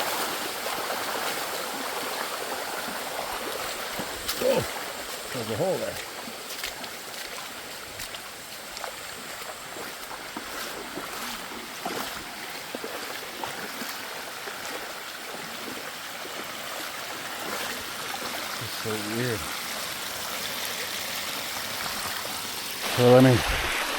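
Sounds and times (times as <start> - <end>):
water rushing over rock: 0.0 - 23.9.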